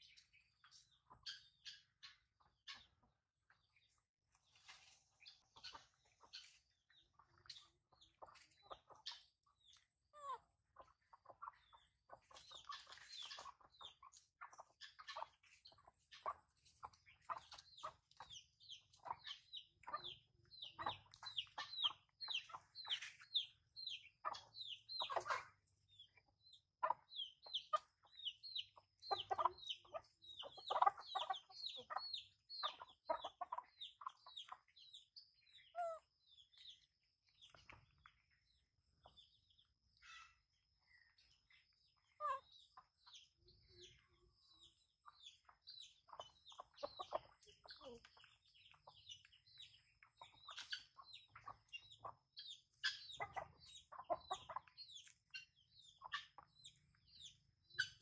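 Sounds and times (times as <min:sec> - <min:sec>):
low clucking bird calls: 0:00.0 - 0:58.0.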